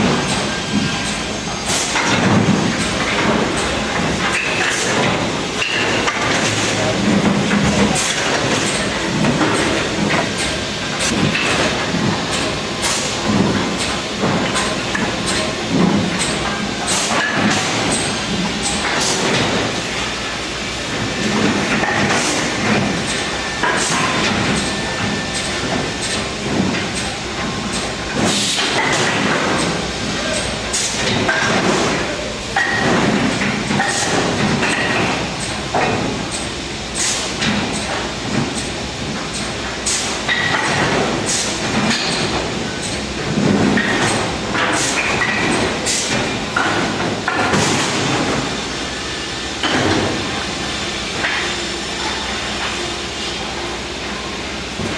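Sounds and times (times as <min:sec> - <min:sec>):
machine rattling and whirring: 0:00.0 - 0:54.9.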